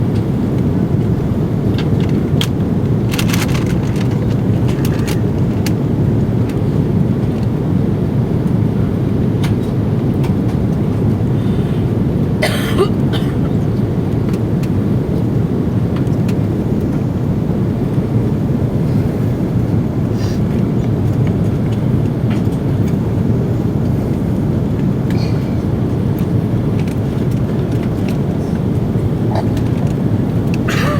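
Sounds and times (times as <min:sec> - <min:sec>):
airliner cabin rumble: 0:00.0 - 0:30.9.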